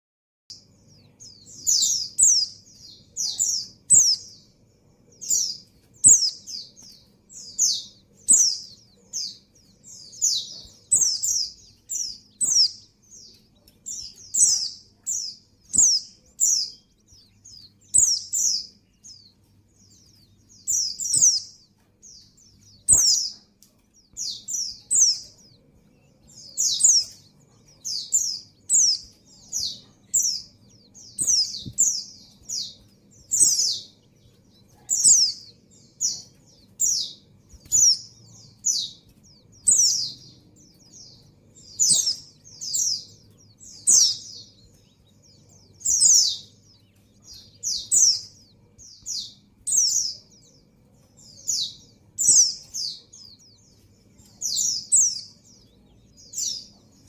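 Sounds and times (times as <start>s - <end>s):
bird high chirps: 0.5s - 57.0s.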